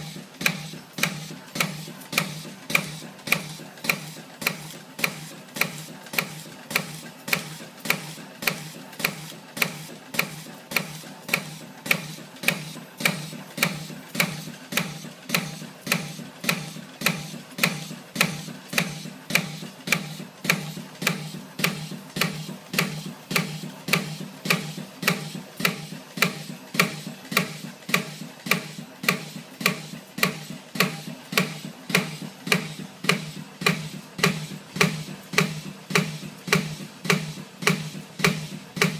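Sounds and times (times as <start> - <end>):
sharp machine clicks: 0.0 - 38.9.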